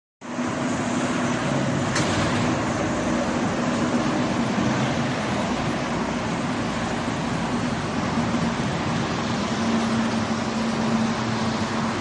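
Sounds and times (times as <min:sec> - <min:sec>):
low engine hum: 0:00.2 - 0:12.0
road traffic rushing: 0:00.2 - 0:12.0.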